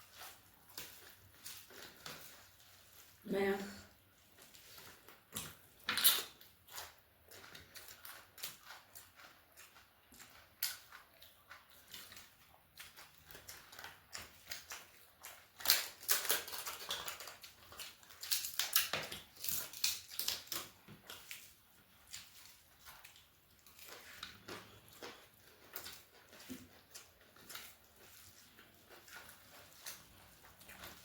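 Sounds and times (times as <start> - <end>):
crunchy chewing: 0.0 - 3.2, 3.9 - 31.0.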